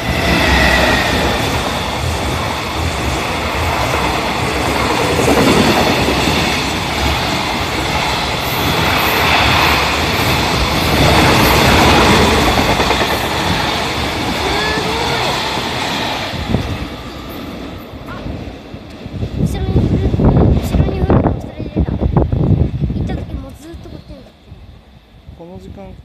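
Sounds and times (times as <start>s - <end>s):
train wheels rumbling over rails: 0.0s - 26.0s.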